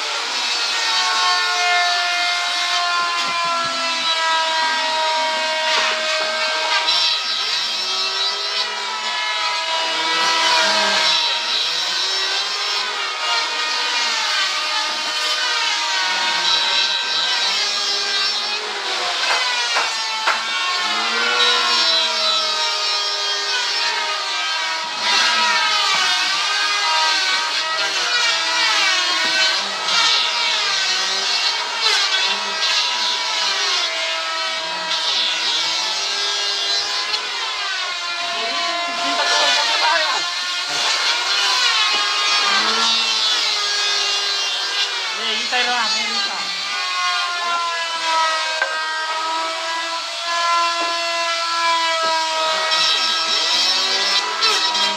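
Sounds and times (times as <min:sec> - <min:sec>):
power tool cutting wood: 0:00.0 - 0:54.9.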